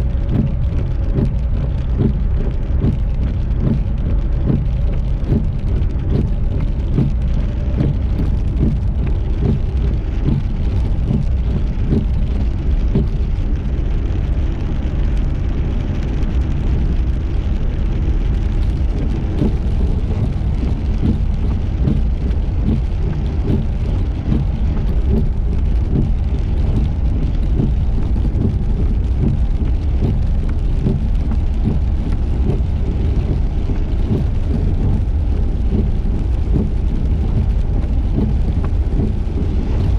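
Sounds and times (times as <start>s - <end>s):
car rumbling on road: 0.0s - 39.9s
rain: 0.0s - 39.9s
raindrops ticking: 0.0s - 39.9s.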